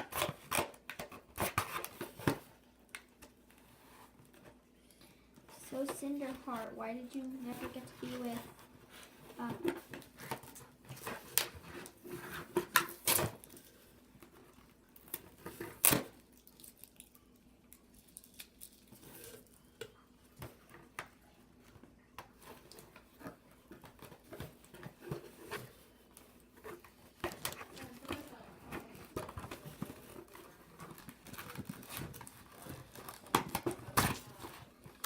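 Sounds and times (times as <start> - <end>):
toy packaging clicks and rustles: 5.5 - 20.9, 22.2 - 35.0.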